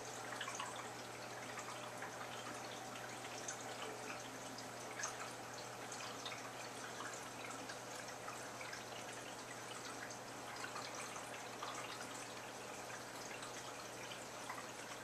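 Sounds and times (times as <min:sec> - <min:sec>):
filter water trickling and dripping: 0:00.0 - 0:15.0.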